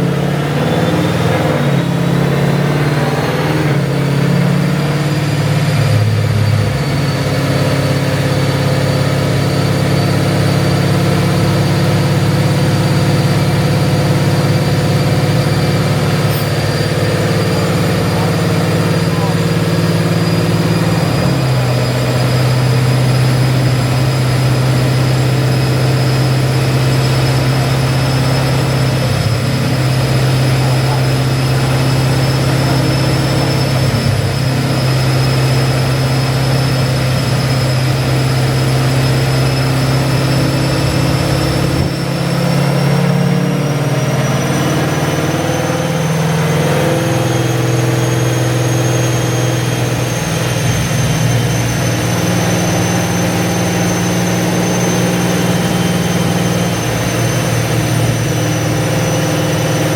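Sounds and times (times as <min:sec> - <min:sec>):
car engine running: 0:00.0 - 0:59.9
high whine rising in pitch: 0:00.0 - 0:59.9.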